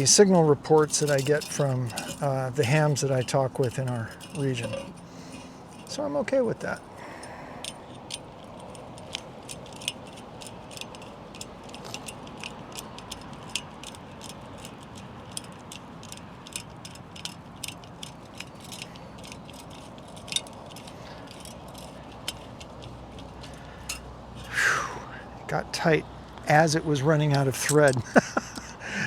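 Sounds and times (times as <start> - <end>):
hose clamp screw clicking: 0.0 - 24.7, 27.2 - 28.7.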